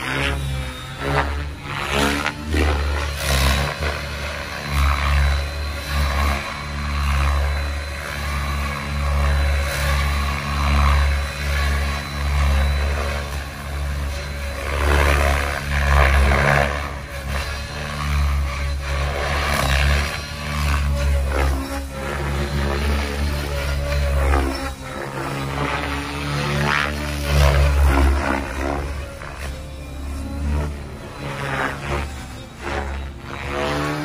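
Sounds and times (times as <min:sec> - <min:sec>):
rc helicopter rotor and motor whir: 0:00.0 - 0:34.0.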